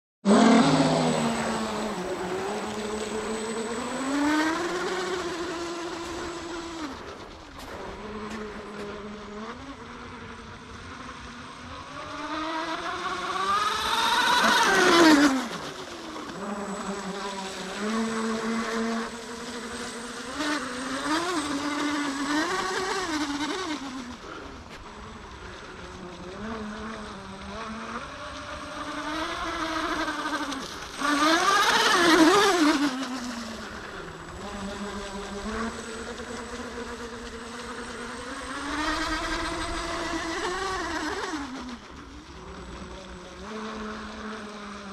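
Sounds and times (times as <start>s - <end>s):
electric motor whine of toy boat: 0.3s - 44.9s.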